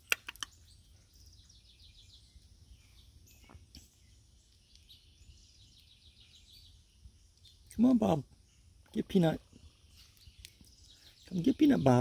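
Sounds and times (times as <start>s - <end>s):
songbird trilling: 0.4s - 12.0s.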